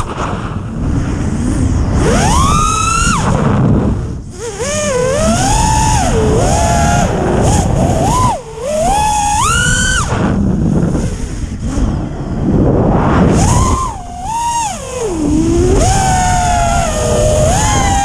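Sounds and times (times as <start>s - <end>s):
wind rush on microphone: 0.0s - 18.0s
drone motors whining: 0.7s - 18.0s.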